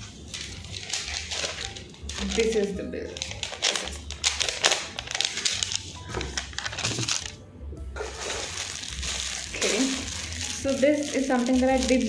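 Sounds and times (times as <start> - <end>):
paper and packaging rustling: 0.0 - 7.4, 8.0 - 12.0.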